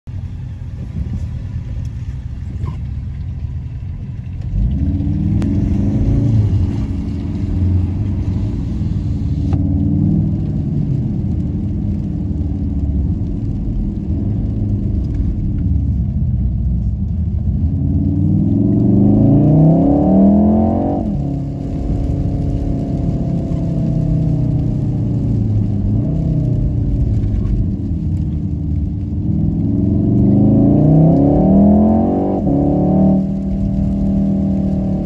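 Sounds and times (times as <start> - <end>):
low road rumble: 0.0 - 35.0
car engine running: 0.1 - 35.0.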